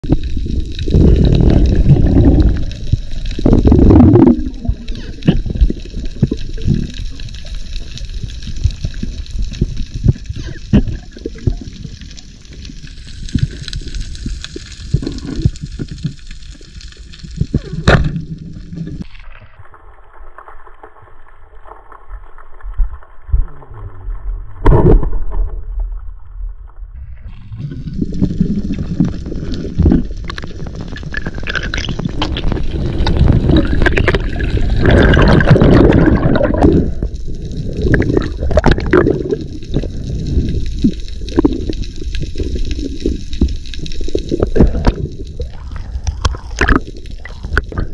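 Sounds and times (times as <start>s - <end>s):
underwater rushing water: 0.0s - 25.8s, 27.0s - 47.9s.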